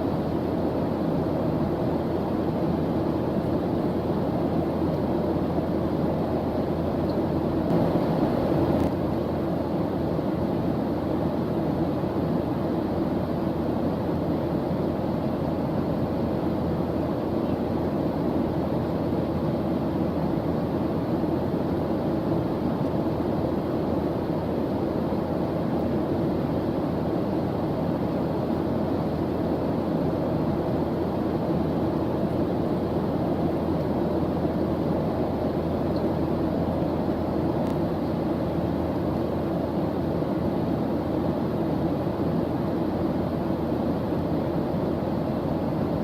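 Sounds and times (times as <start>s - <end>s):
low white noise hiss: 0.0s - 46.0s.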